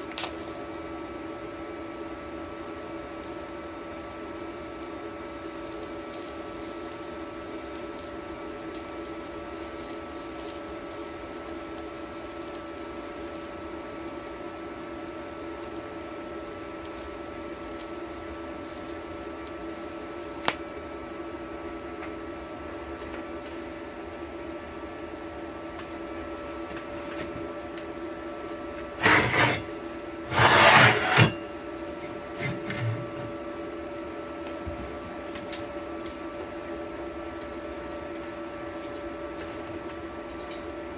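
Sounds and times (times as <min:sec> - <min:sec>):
welder electrical hum: 0:00.0 - 0:40.9.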